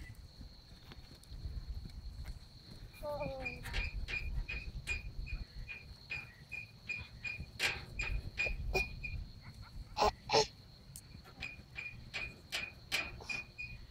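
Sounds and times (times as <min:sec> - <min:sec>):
crickets chirping: 0:00.0 - 0:13.9
high insect trill: 0:00.0 - 0:13.9.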